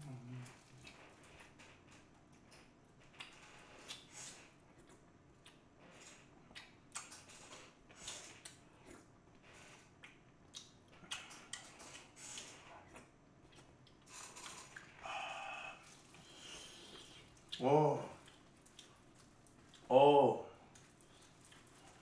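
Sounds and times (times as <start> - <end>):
chewing mouth clicks and smacks: 0.3 - 15.0, 16.8 - 19.9, 20.7 - 22.0.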